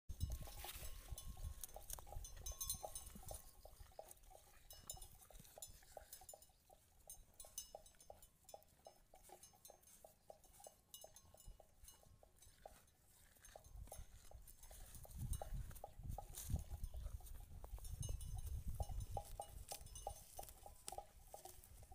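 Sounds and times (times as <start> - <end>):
calves chewing plants: 0.1 - 21.9.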